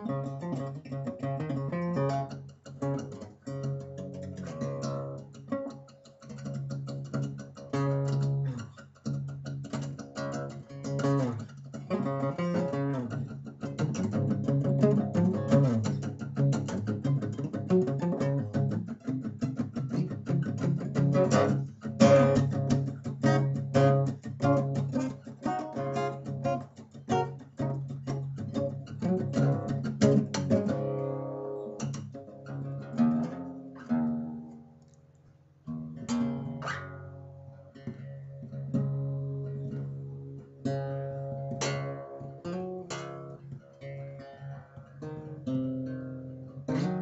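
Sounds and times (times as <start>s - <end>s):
acoustic guitar strumming: 0.0s - 34.8s, 35.6s - 47.0s.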